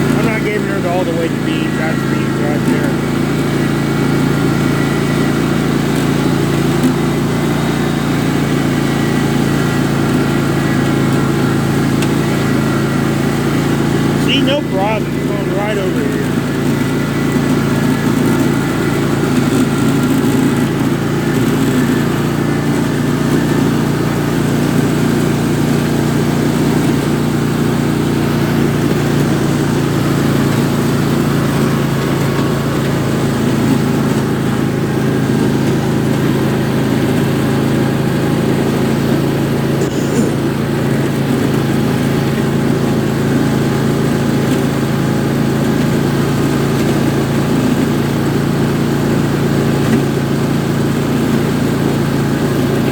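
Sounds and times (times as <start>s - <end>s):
lawn tractor engine running: 0.0s - 52.9s.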